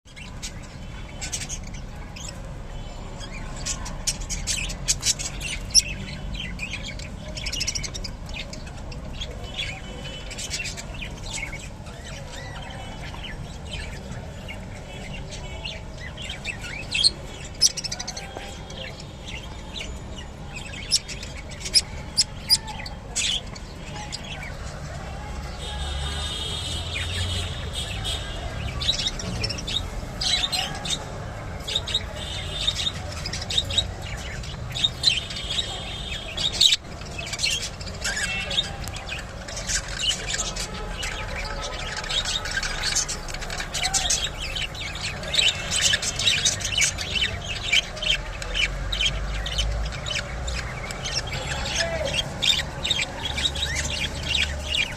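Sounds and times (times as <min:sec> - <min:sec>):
budgerigars chirping and squawking: 0:00.1 - 0:54.9.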